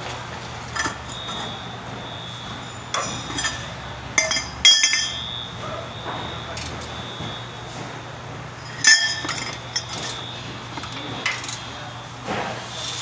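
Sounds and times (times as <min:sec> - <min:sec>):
metal tools and parts clinking: 0:00.4 - 0:07.9, 0:08.6 - 0:11.8
loud ringing metal clank: 0:00.6 - 0:12.0.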